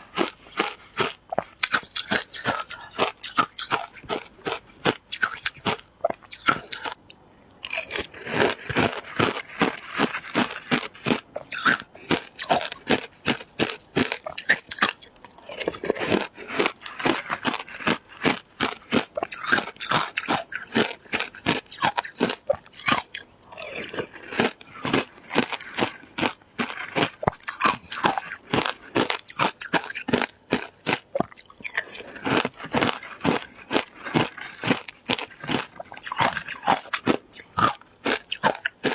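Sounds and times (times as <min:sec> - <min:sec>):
ice being crunched and chewed: 0:00.0 - 0:38.9.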